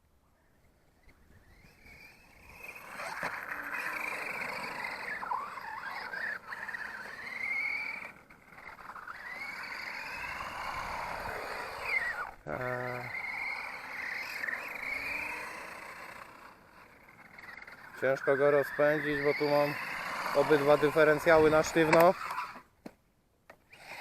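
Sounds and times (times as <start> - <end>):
toy truck electric motor whining: 0.9 - 22.7, 23.6 - 24.0.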